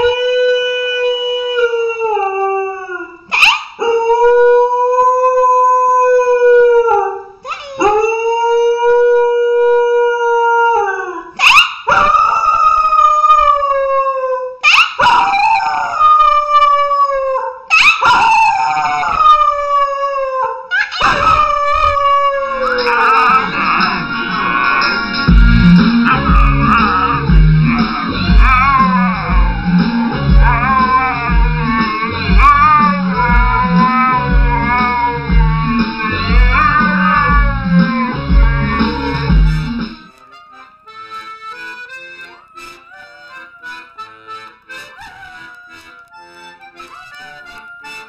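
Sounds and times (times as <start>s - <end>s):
dog howling: 0.0s - 39.7s, 42.5s - 44.0s, 44.9s - 46.2s, 46.8s - 48.0s.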